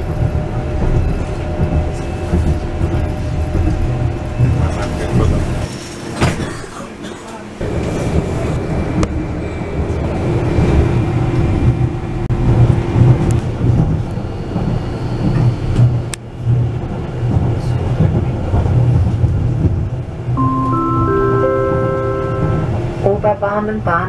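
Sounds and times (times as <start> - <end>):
railway car rumble: 0.0 - 24.0.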